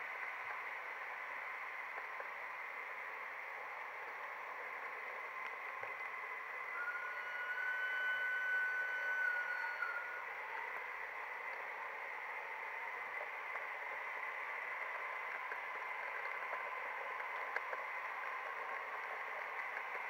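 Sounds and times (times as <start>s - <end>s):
faint steady whine: 0.0s - 20.0s
model train rolling: 0.0s - 20.0s.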